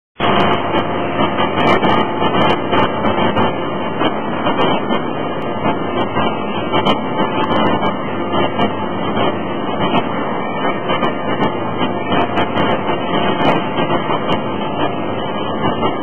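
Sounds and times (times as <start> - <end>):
heavy machinery din: 0.2 - 16.0.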